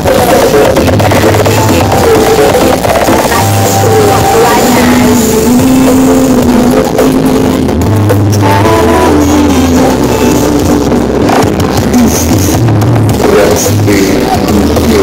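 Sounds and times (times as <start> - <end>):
loud bass-heavy music: 0.0 - 15.0.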